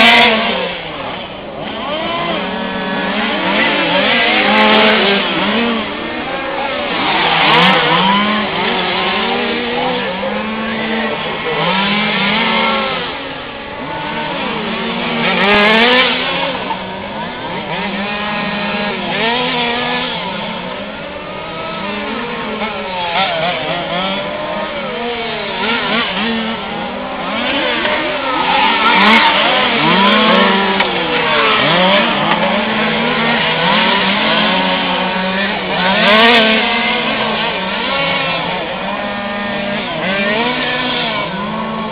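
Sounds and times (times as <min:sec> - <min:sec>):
race car passing close: 0:00.0 - 0:41.9
small engines revving: 0:00.0 - 0:41.9.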